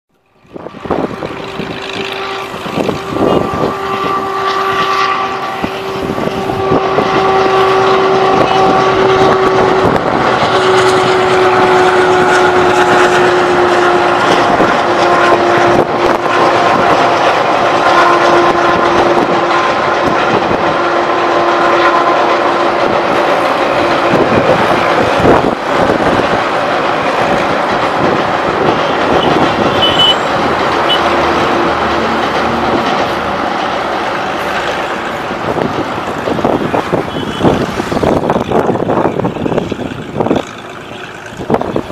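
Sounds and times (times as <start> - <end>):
train wheels rumbling: 0.1 - 41.9
wheels clattering over rail joints: 0.2 - 41.9.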